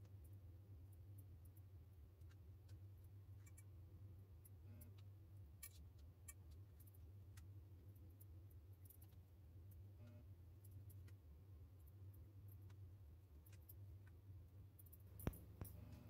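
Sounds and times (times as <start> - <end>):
steady low hum: 0.0 - 16.0
faint clicks and taps: 1.2 - 3.8, 4.4 - 16.0.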